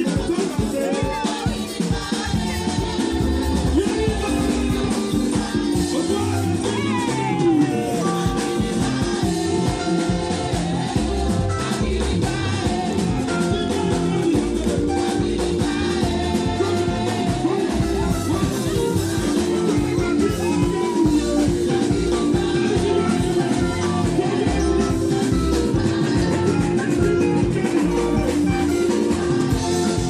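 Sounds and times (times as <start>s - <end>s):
band with keyboard and drums: 0.0s - 30.0s
choir singing gospel: 0.0s - 30.0s.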